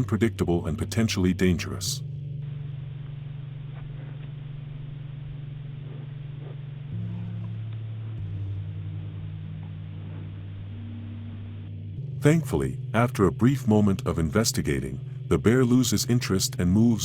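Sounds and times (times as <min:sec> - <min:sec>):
droning ambient music: 0:00.0 - 0:17.0.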